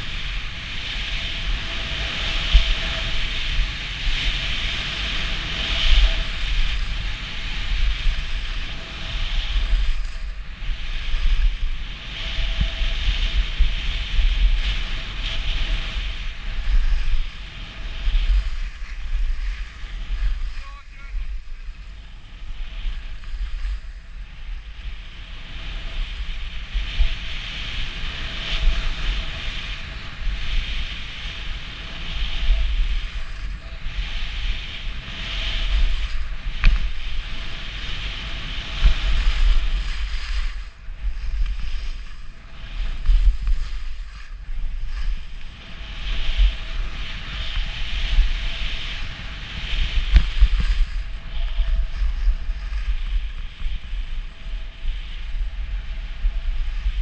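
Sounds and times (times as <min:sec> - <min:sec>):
skis scraping on snow: 0:00.0 - 0:57.0
wind buffeting microphone: 0:00.0 - 0:57.0.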